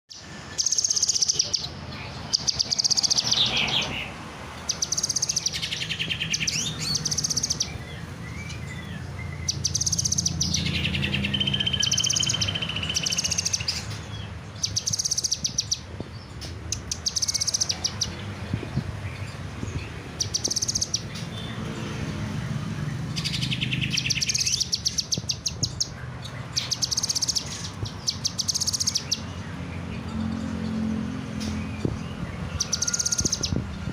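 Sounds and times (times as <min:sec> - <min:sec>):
bird chattering: 0:00.1 - 0:21.4, 0:23.1 - 0:29.5.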